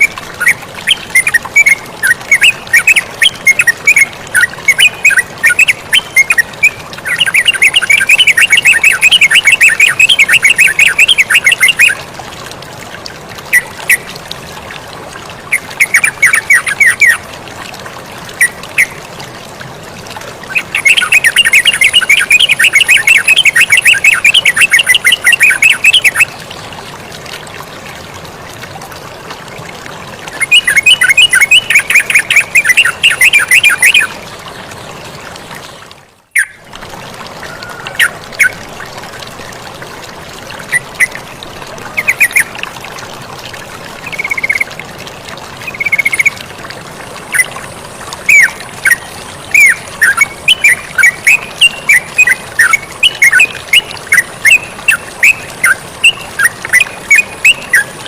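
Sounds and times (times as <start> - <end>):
running water: 0.0 - 58.0.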